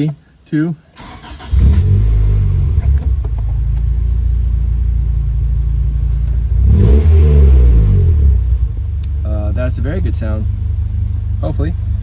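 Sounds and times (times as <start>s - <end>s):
car engine idling and revving: 1.0s - 12.0s.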